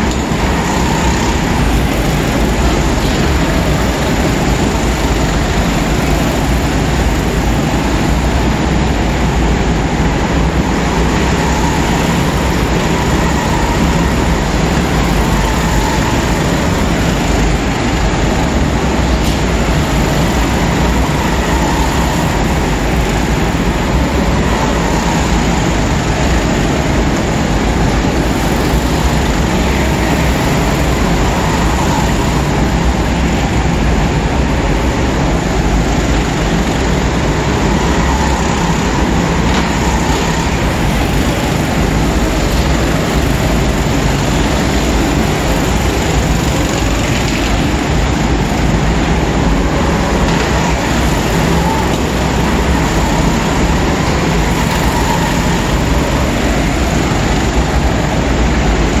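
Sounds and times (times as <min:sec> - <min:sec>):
go-kart engines racing: 0:00.0 - 0:59.0.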